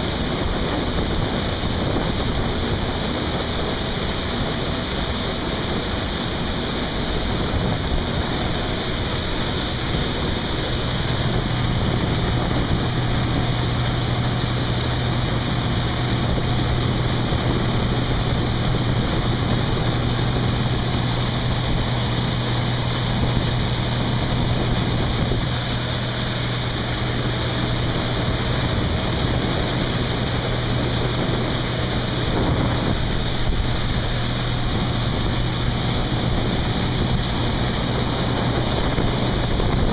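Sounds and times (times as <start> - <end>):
broad rushing noise: 0.0 - 39.9
harvester engine drone: 0.0 - 39.9.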